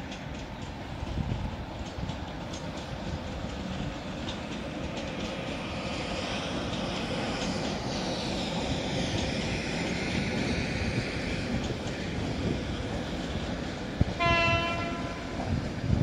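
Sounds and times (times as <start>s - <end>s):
rail joint clicks: 0.0s - 16.0s
train wheels rumbling on rail: 0.0s - 16.0s.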